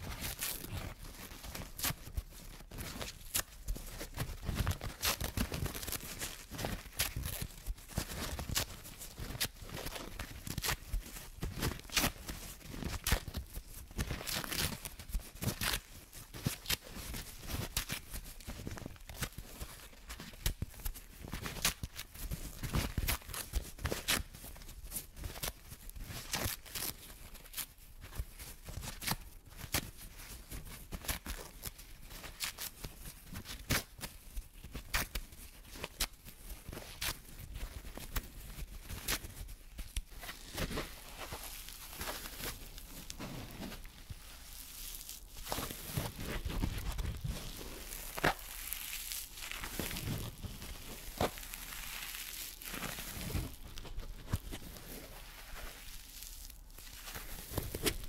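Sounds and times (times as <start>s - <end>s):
crinkling and tearing at microphone: 0.0s - 58.0s.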